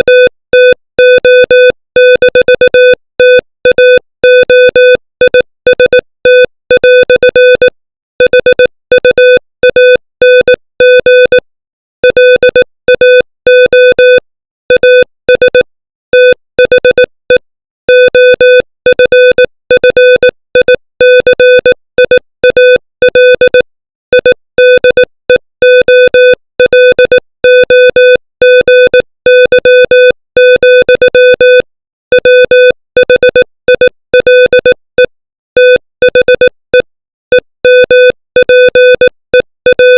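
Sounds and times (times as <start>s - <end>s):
morse code beeps: 0.0s - 11.4s, 12.0s - 39.9s.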